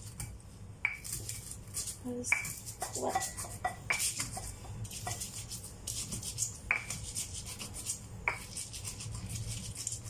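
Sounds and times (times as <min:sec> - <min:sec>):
stone pestle grinding in mortar: 0:00.9 - 0:10.0.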